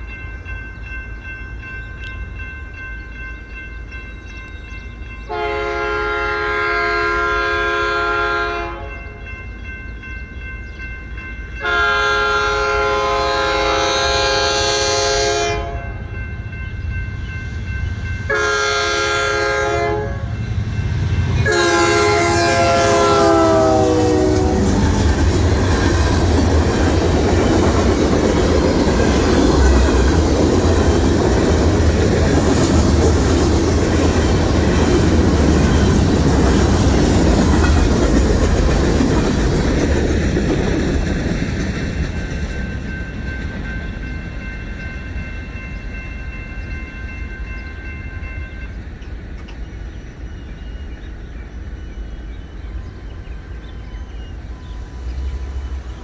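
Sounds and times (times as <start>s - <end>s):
freight train passing: 0.0s - 56.0s.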